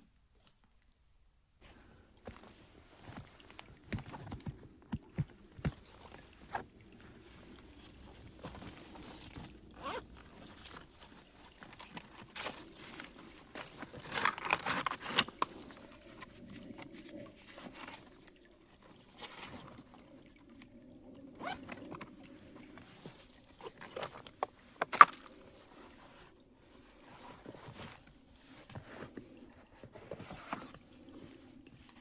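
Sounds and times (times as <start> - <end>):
scraping and rustling handling: 1.6 - 19.8, 22.8 - 32.0.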